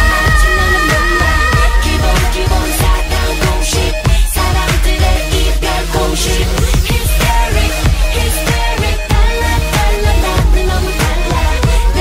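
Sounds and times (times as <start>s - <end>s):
deep bass hits: 0.0s - 12.0s
electronic dance music: 0.0s - 12.0s.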